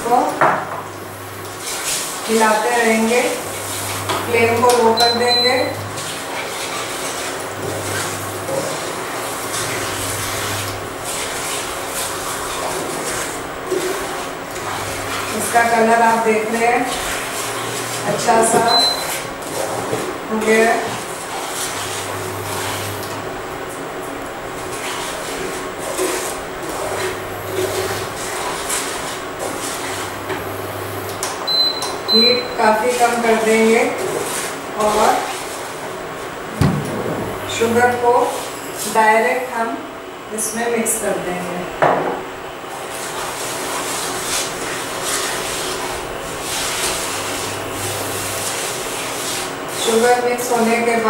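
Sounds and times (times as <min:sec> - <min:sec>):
induction cooktop hum: 0:00.0 - 0:51.0.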